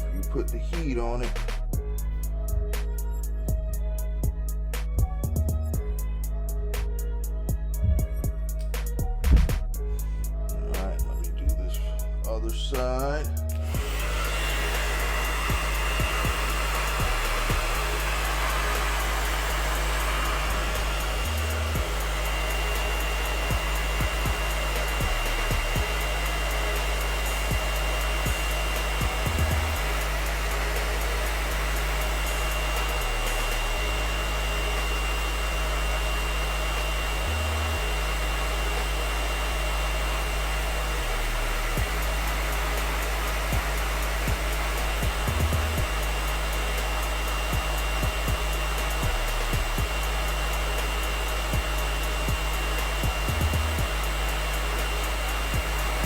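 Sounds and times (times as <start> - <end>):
hair dryer running: 0.0 - 5.9, 7.5 - 56.0.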